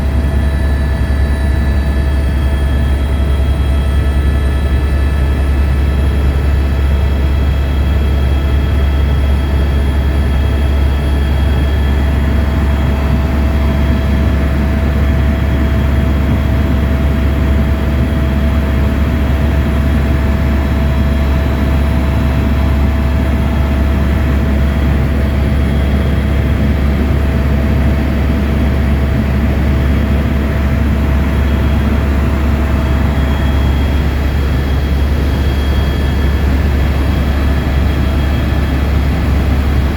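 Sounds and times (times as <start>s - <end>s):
helicopter rotor and engine drone: 0.0s - 39.9s
turbine whine: 0.0s - 39.9s.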